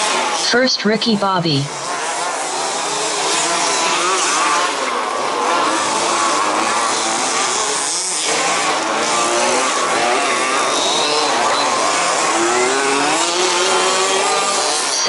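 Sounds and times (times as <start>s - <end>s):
rc car engines buzzing: 0.0s - 15.0s.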